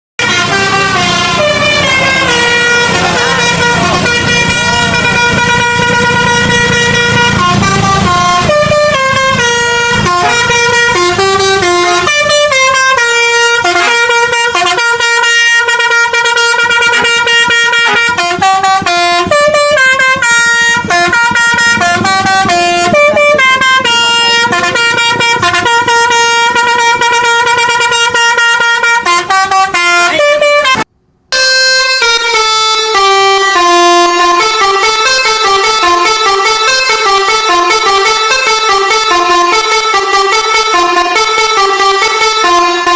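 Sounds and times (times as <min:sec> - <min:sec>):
bus air horn playing a tune: 0:00.2 - 0:42.9.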